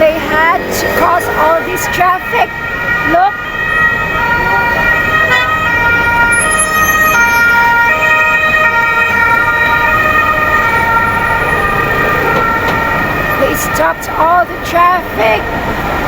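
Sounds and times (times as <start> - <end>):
emergency vehicle sirens: 0.0 - 16.0
road noise: 0.0 - 16.0.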